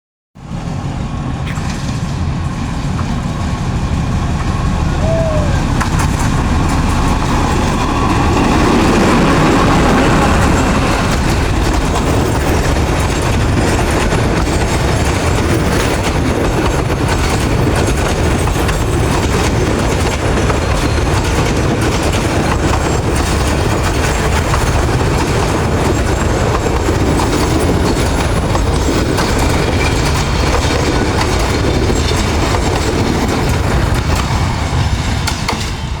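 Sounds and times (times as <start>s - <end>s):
train rumbling on rails: 0.4s - 36.0s
wheels clicking on rails: 1.4s - 36.0s.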